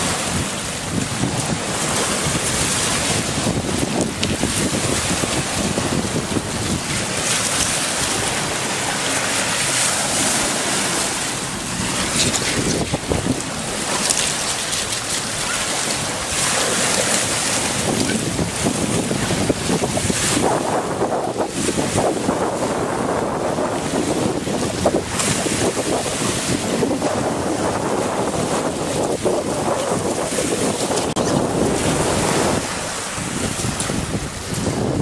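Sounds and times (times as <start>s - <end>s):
waves washing over pebbles: 0.0s - 35.0s
wind buffeting microphone: 0.0s - 35.0s.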